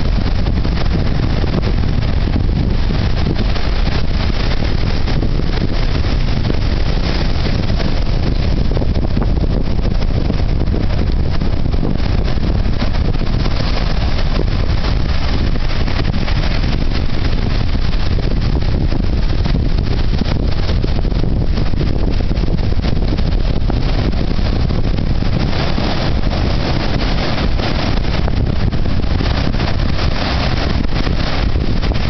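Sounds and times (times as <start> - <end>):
surf breaking over rocks: 0.0 - 32.0.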